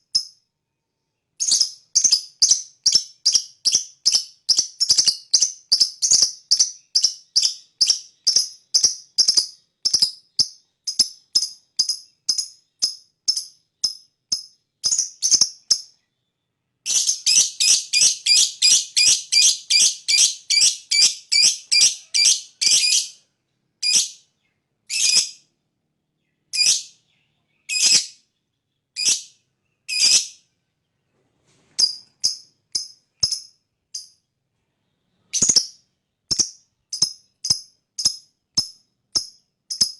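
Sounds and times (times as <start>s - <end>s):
lovebird chirping: 0.0s - 39.9s.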